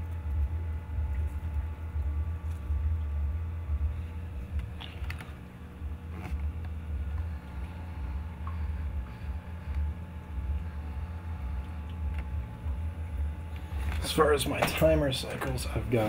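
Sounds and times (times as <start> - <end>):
fogger unit humming: 0.0 - 16.0.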